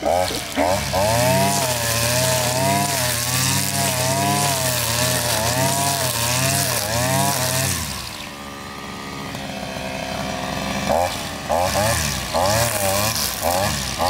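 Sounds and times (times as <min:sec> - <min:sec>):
brush cutter engine cutting weeds: 0:00.0 - 0:14.0.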